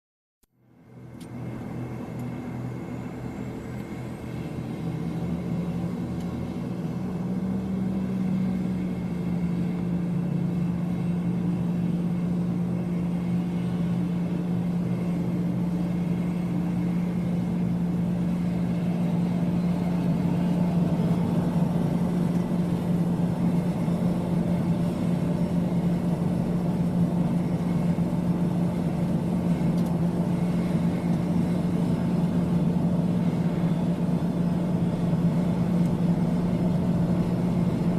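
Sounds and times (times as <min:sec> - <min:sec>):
aeroplane engine drone: 0:00.5 - 0:37.9.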